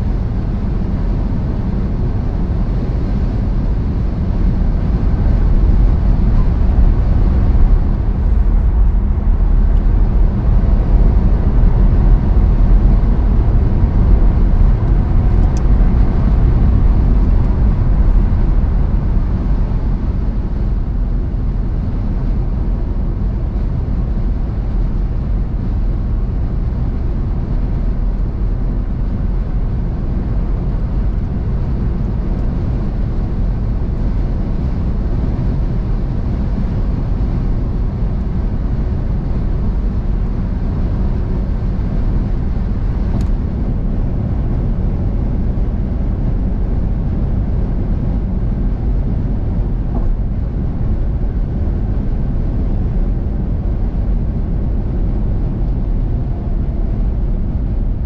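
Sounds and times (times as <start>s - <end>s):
car engine hum: 0.0s - 58.0s
tyres rumbling on road: 0.0s - 58.0s.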